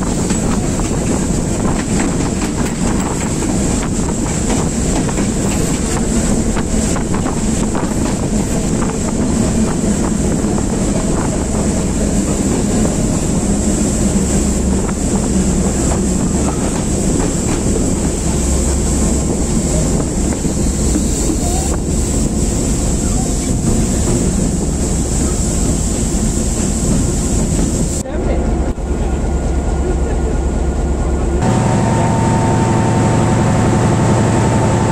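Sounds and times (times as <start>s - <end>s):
wheels clattering on track: 0.0s - 28.0s
locomotive engine drone: 0.0s - 34.9s.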